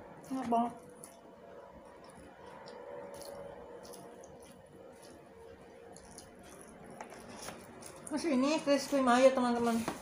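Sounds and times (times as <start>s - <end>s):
low room hum: 0.0s - 10.0s
soft chewing and mouth sounds: 0.1s - 8.2s.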